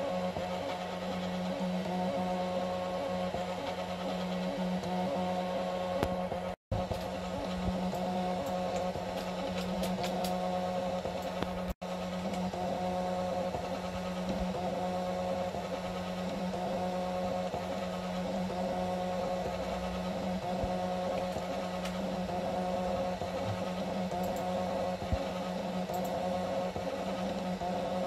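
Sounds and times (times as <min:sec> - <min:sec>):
laser engraver fan and motors: 0:00.0 - 0:28.0.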